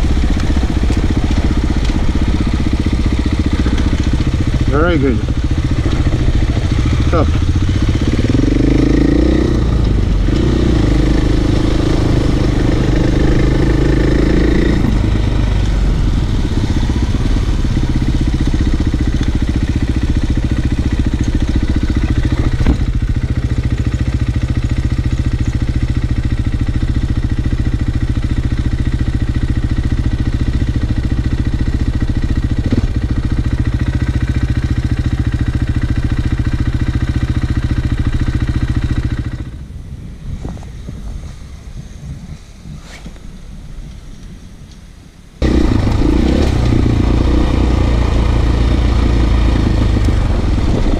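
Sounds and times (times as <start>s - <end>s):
motorcycle engine running: 0.0s - 42.0s, 45.4s - 50.9s.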